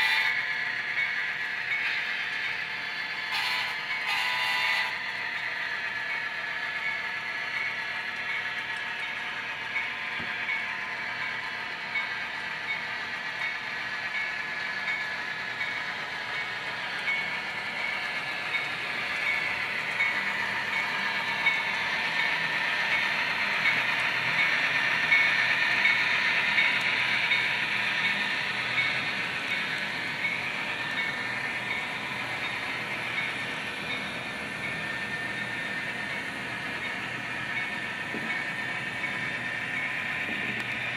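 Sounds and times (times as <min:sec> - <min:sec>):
model train whine: 0:00.0 - 0:40.9.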